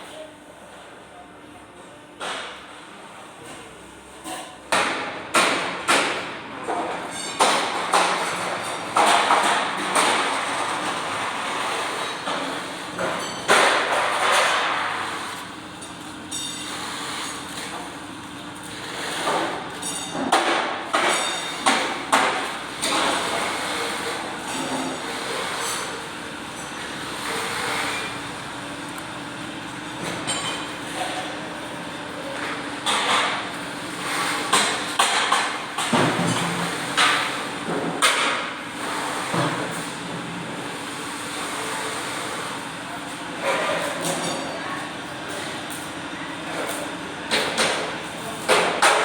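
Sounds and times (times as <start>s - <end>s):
workshop background noise: 0.0s - 49.0s.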